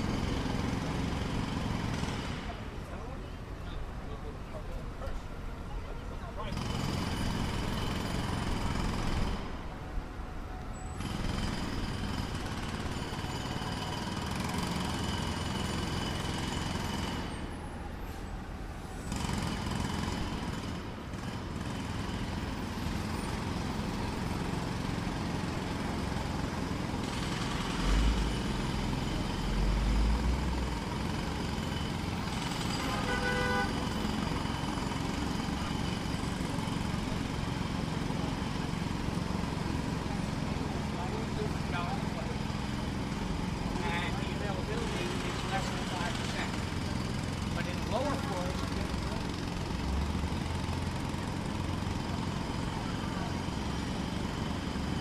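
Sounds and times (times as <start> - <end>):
distant jackhammer hammering: 0.0 - 2.8, 6.5 - 9.8, 11.0 - 17.8, 19.0 - 55.0.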